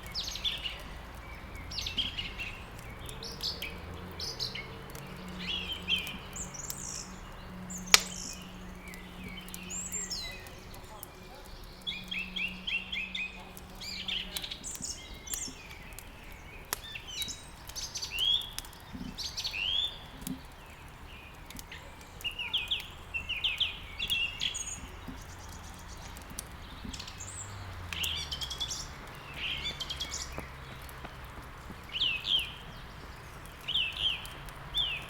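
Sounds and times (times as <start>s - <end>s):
songbirds chirping and trilling: 0.0s - 35.0s
wood crackling in fireplace: 0.0s - 35.0s.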